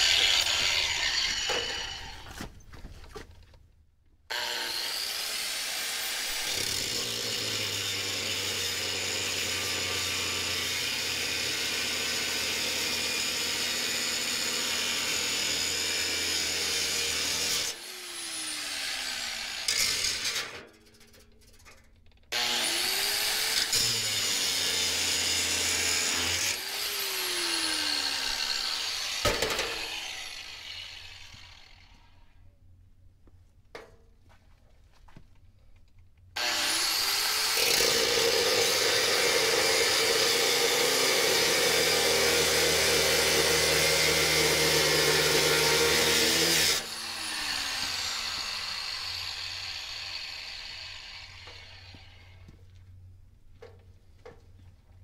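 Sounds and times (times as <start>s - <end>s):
angle grinder cutting steel: 0.0s - 2.4s, 4.3s - 21.2s, 22.3s - 32.3s, 36.4s - 52.5s.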